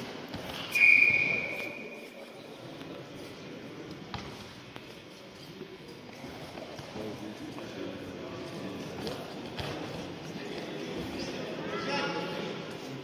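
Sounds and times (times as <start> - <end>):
murmur of large hall: 0.0 - 13.0.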